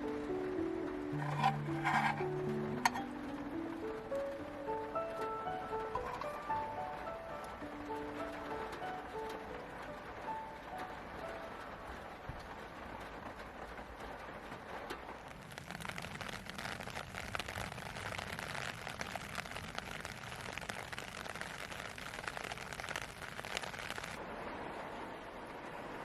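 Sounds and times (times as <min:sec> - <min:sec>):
raindrops ticking on surface: 0:00.0 - 0:26.0.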